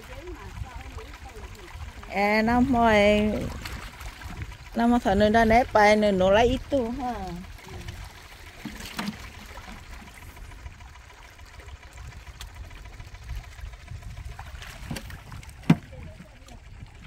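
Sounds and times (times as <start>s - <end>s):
small waves lapping on rocks: 0.0s - 17.0s
steady low rumble: 0.0s - 17.0s.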